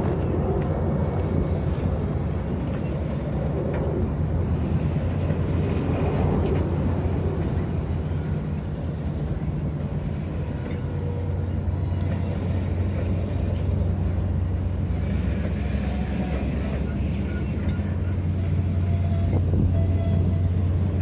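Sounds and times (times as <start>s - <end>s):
locomotive engine humming: 0.0s - 21.0s.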